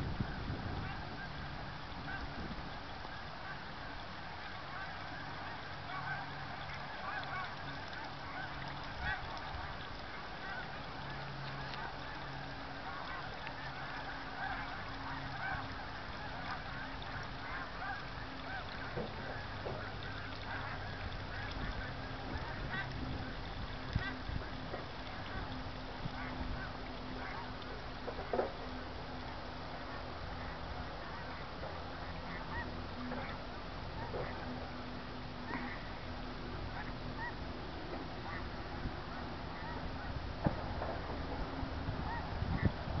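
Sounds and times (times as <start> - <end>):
low hum: 0.0 - 43.0
flock of birds calling: 0.8 - 37.4.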